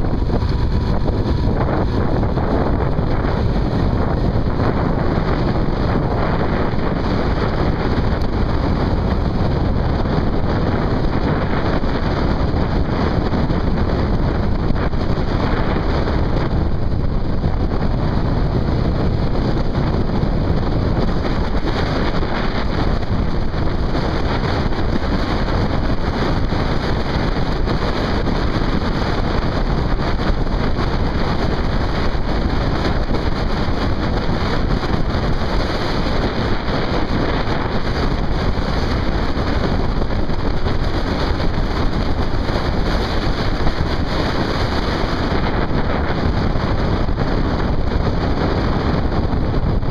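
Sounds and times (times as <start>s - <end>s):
vehicle running and road noise: 0.0s - 49.9s
wind rush on microphone: 0.0s - 49.9s.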